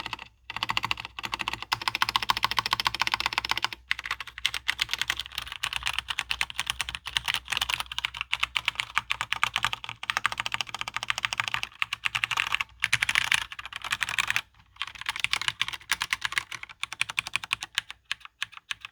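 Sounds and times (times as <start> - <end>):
fast mechanical keyboard typing: 0.0 - 18.9.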